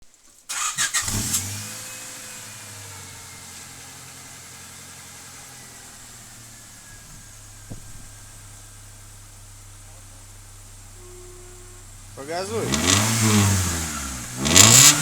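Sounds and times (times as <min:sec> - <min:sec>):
car engine cranking: 0:00.4 - 0:15.0
car engine idling: 0:00.5 - 0:15.0.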